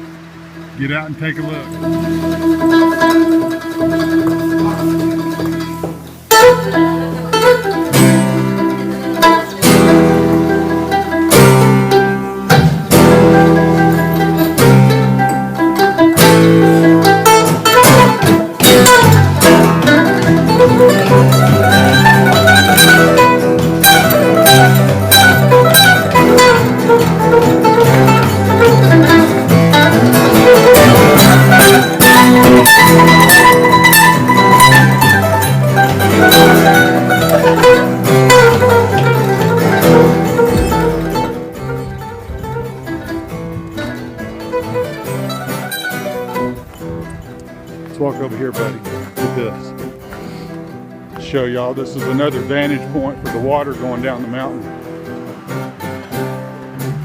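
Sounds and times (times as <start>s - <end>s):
mandolin picking: 0.0s - 57.0s
plucked acoustic guitar: 0.0s - 57.0s
walking bass line: 0.0s - 57.0s.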